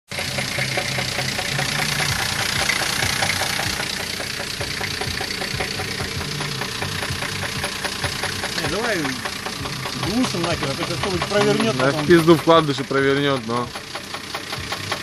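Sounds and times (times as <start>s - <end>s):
engine running with rhythmic knock: 0.1s - 15.0s.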